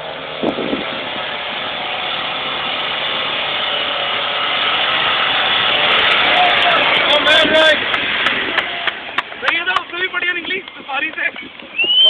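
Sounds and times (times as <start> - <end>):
suv engine under load: 0.0 - 12.0
tyres on dirt: 0.0 - 12.0.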